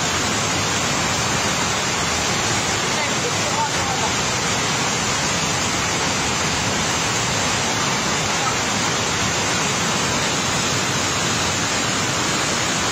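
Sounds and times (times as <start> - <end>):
water rushing down stream: 0.0 - 12.9.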